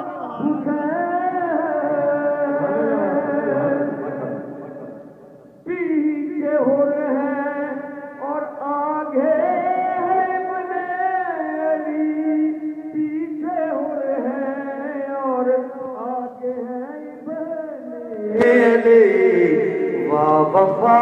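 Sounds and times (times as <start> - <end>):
man singing into a microphone: 0.0 - 4.8, 5.6 - 21.0.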